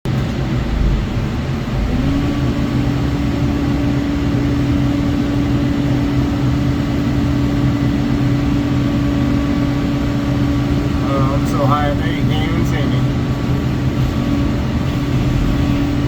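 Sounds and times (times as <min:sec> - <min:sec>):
excavator engine rumble: 0:00.0 - 0:16.0
mulcher whine: 0:00.1 - 0:16.0.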